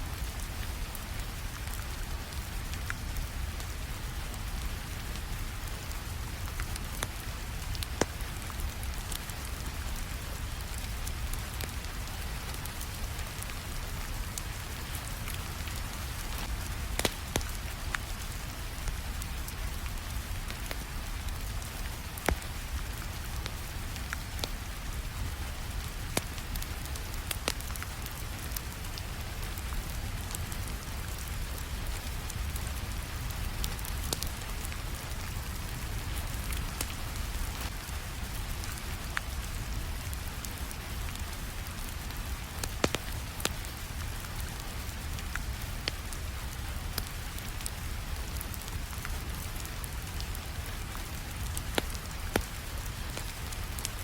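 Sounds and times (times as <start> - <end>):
steady rainfall: 0.0 - 54.0
wood fire crackling: 0.1 - 54.0.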